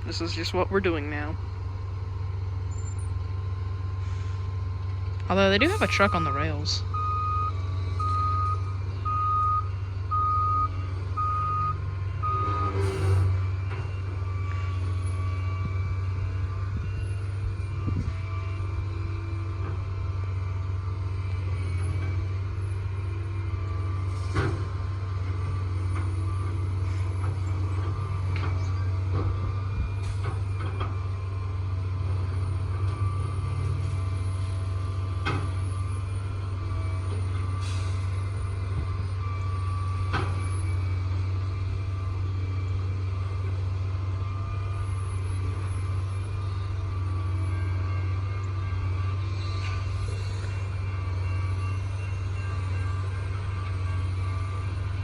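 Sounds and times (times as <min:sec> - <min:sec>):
heavy machinery diesel engines running: 0:00.0 - 0:55.0.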